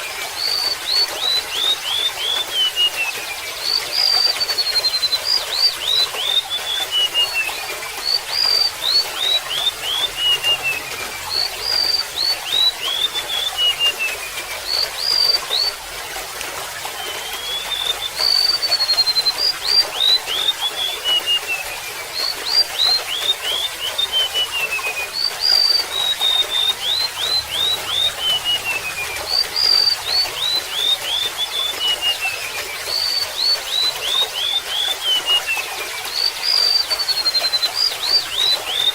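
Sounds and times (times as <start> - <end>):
bird singing whistled song: 0.0 - 15.9, 16.8 - 38.9
trickle of water: 0.0 - 38.9.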